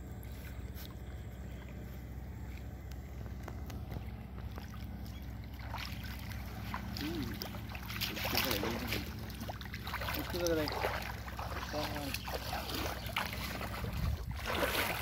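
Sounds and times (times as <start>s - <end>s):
steady low hum: 0.0s - 15.0s
water sloshing and splashing: 0.1s - 15.0s.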